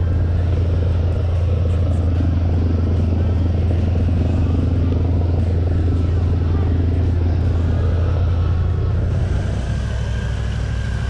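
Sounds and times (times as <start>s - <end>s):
airboat engine idling: 0.0s - 11.0s.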